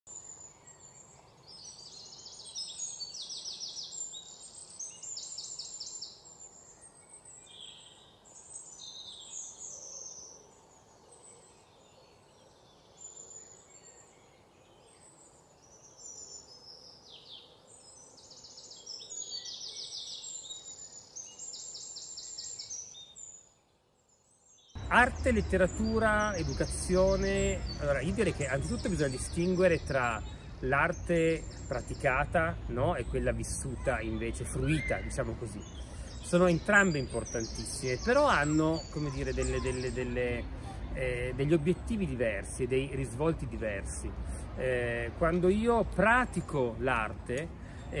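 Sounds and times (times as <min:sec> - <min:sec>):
songbirds singing: 0:00.1 - 0:48.0.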